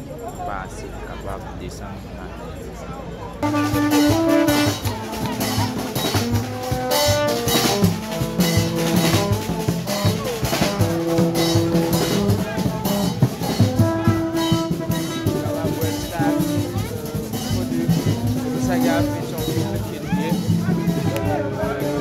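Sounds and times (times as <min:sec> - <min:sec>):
hand drums: 0:03.4 - 0:22.0
hooting tube horns: 0:03.4 - 0:22.0
metal percussion: 0:03.4 - 0:22.0.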